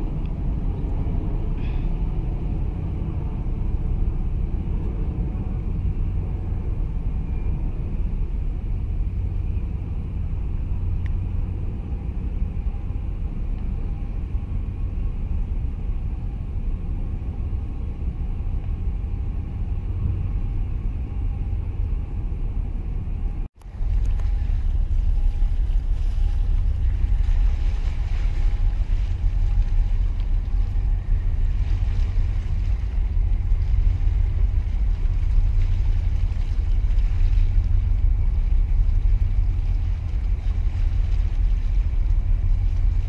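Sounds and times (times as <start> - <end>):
faint hum: 0.0 - 43.0
wind buffeting microphone: 0.0 - 43.0.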